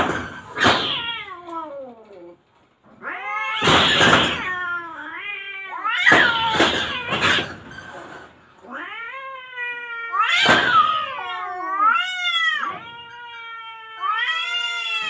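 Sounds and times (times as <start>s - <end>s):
cats yowling and screeching: 0.0s - 15.0s.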